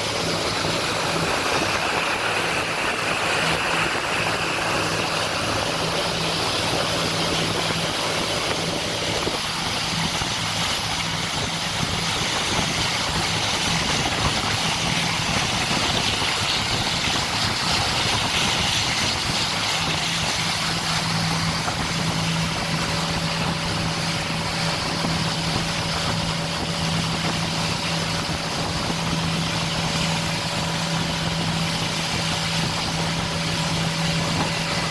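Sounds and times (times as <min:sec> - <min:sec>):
motorboat engine hum: 0:00.0 - 0:34.9
rush of wind and water: 0:00.0 - 0:34.9.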